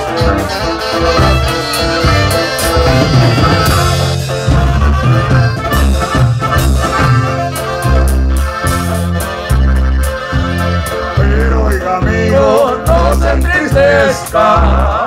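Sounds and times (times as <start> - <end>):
accordion: 0.0 - 15.0
bouncing bass line: 0.0 - 15.0
drums: 0.0 - 15.0
strummed guitar: 0.0 - 15.0.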